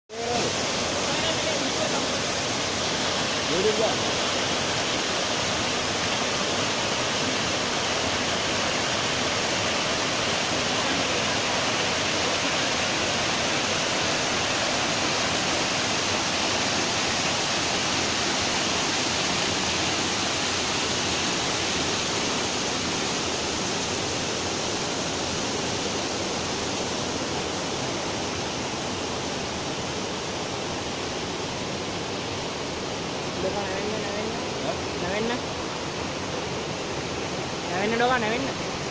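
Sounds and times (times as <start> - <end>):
waterfall over rocks: 0.1 - 38.9.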